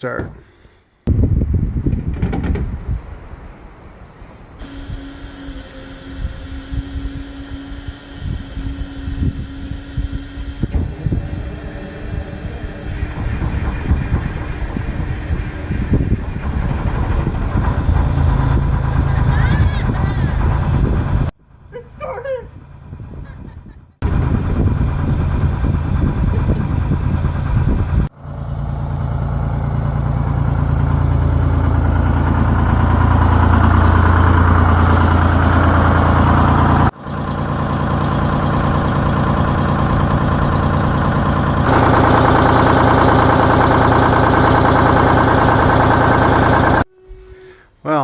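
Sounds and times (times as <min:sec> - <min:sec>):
diesel bus engine running: 0:04.6 - 0:46.9.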